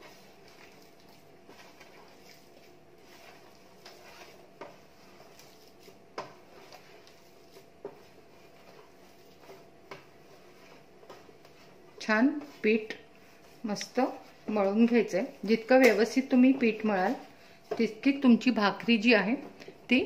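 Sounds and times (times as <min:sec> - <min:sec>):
hands kneading dough: 0:00.0 - 0:20.0.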